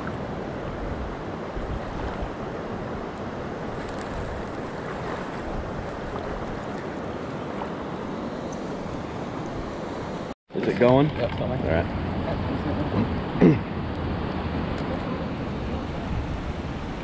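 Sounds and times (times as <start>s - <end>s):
wind gusting on microphone: 0.0s - 10.3s, 11.2s - 17.0s.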